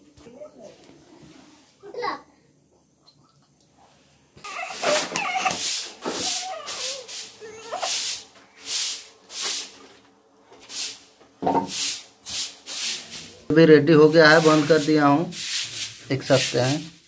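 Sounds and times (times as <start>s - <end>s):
broom sweeping floor: 0.2s - 1.9s, 4.4s - 17.0s.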